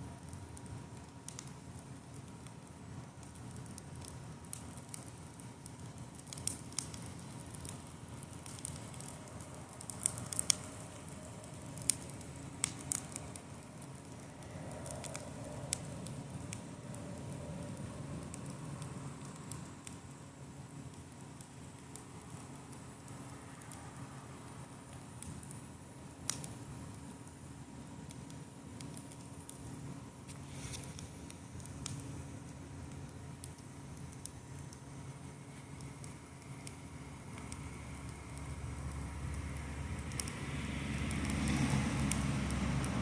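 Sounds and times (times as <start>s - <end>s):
campfire wood crackling and popping: 0.0s - 43.0s
low rush of fire: 0.0s - 43.0s.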